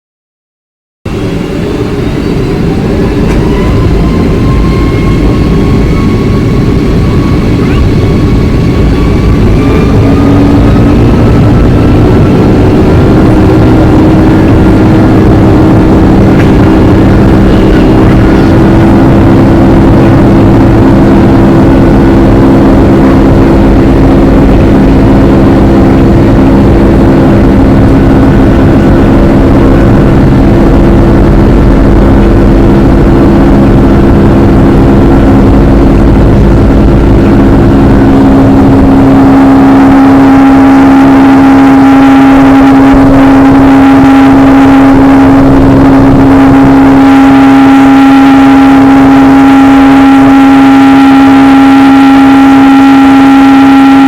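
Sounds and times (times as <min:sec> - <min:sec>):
heavy low rumble: 0:01.1 - 0:54.0
jet engines droning: 0:01.1 - 0:54.0.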